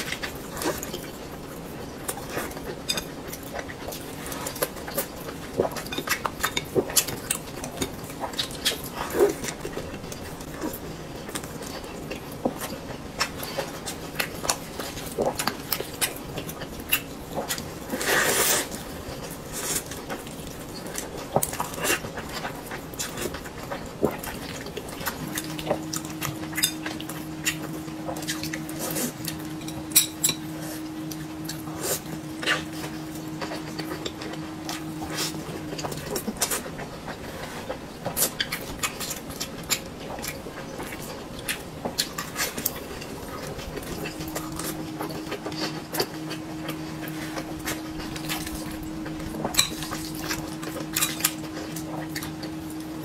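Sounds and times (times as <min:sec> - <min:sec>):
chewing and lip smacks: 0:00.0 - 0:53.0
steady low hum: 0:00.0 - 0:53.0.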